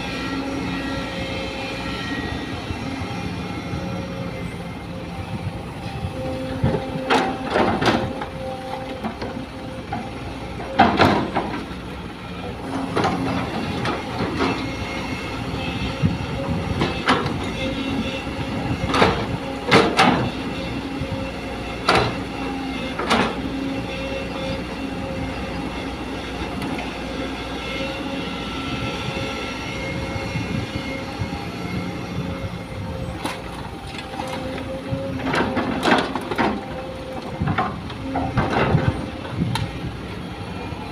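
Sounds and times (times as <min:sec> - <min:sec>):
excavator engine droning: 0:00.0 - 0:40.9.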